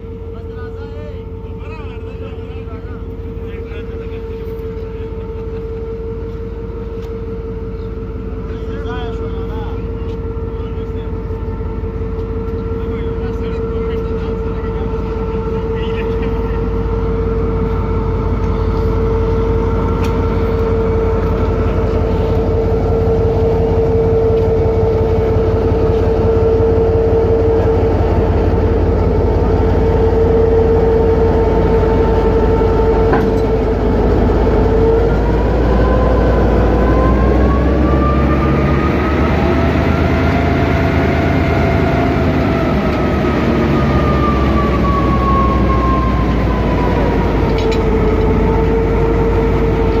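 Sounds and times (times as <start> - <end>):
diesel locomotive engine rumbling: 0.0 - 50.0.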